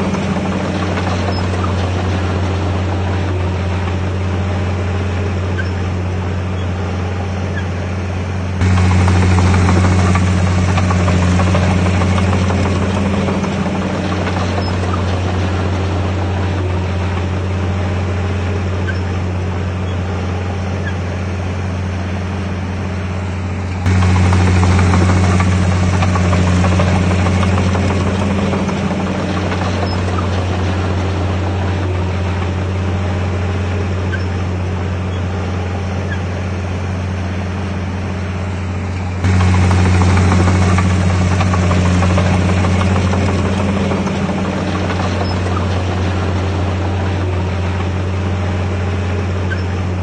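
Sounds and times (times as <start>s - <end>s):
bulldozer diesel engine droning: 0.0s - 50.0s.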